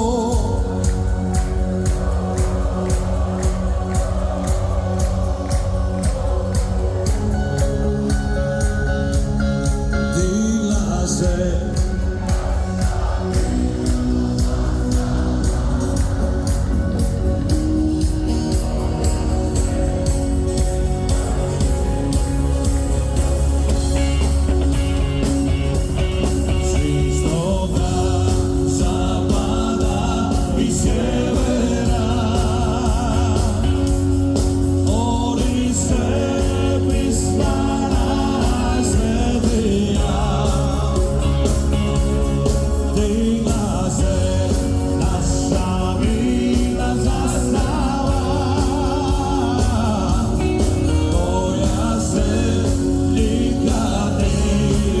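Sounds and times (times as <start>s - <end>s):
rock band music: 0.0s - 55.0s.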